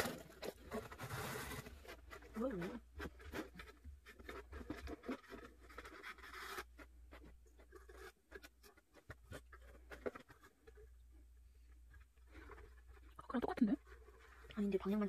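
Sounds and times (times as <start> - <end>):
twine scraping against cardboard: 0.0 - 15.0.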